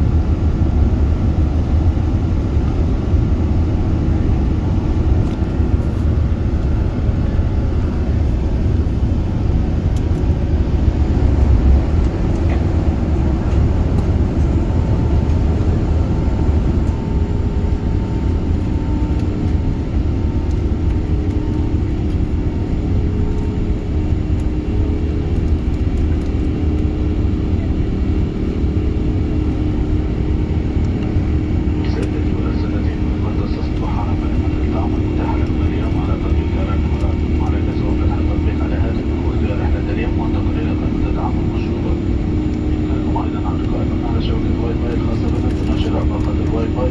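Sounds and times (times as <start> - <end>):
engine and airflow rumble: 0.0 - 46.9.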